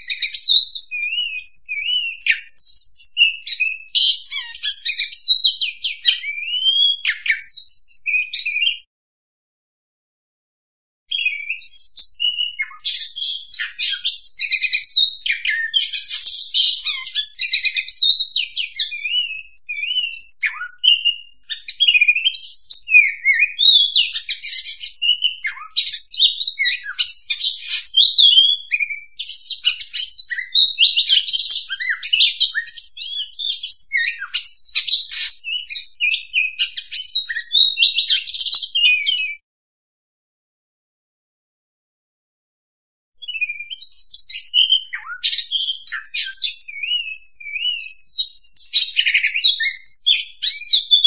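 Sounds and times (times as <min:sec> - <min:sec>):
bird singing whistles and chirps: 0:00.0 - 0:08.9, 0:11.1 - 0:39.4, 0:43.2 - 0:51.0.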